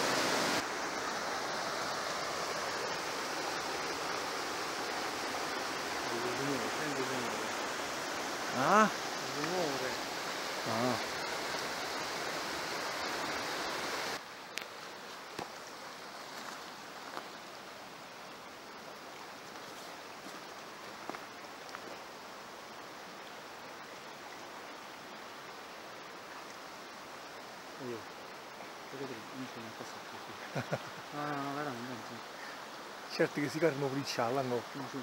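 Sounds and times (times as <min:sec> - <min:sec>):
faint steady hiss: 0:00.0 - 0:35.0
mountain stream rushing: 0:00.0 - 0:35.0.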